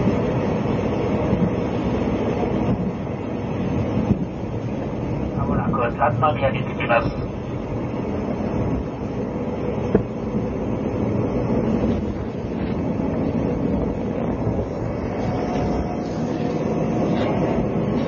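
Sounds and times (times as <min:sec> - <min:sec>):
train coach rumbling on rails: 0:00.0 - 0:18.0.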